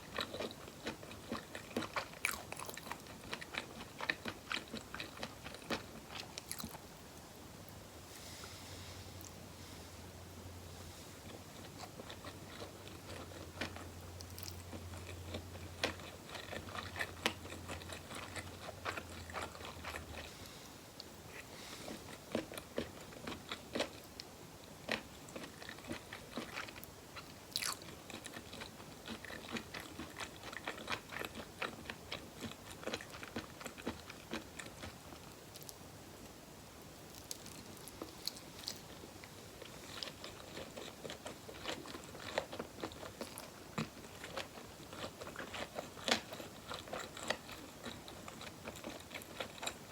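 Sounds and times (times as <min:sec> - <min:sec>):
person chewing food: 0:00.0 - 0:06.9, 0:11.2 - 0:35.8, 0:37.0 - 0:49.9.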